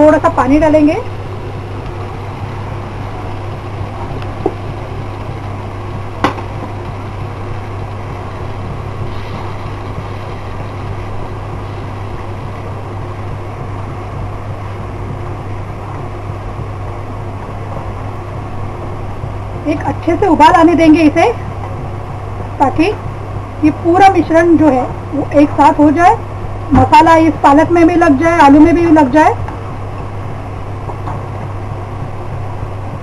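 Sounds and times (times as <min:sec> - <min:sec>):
low hum with hiss: 0:00.0 - 0:33.0.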